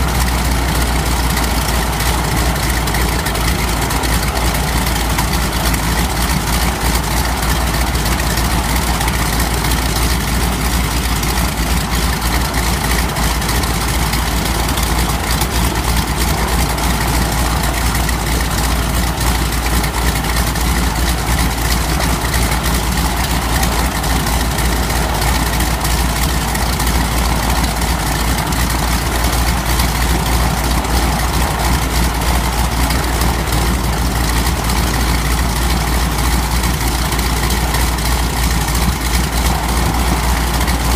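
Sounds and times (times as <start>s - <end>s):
aircraft engine and propeller idling: 0.0s - 40.9s.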